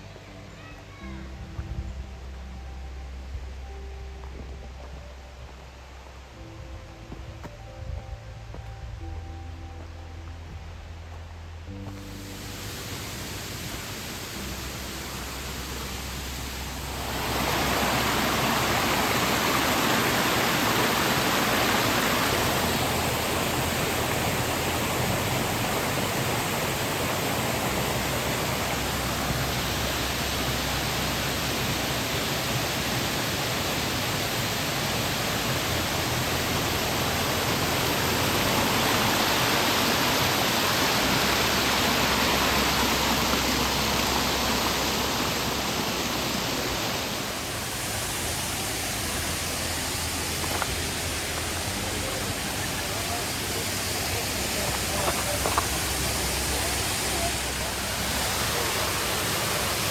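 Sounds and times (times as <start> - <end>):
waterfall rushing: 11.8 - 59.9.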